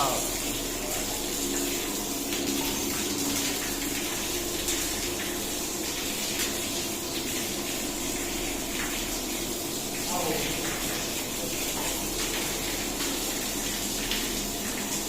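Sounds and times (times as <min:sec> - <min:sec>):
pool filter pump running: 0:00.0 - 0:15.0
water rushing through pump: 0:00.0 - 0:15.0.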